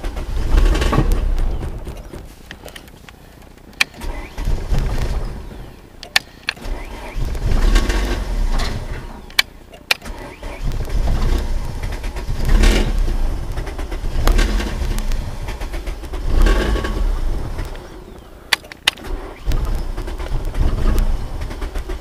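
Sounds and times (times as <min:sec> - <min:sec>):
car engine cranking and sputtering: 0:00.0 - 0:22.0
sharp clicks: 0:00.0 - 0:22.0.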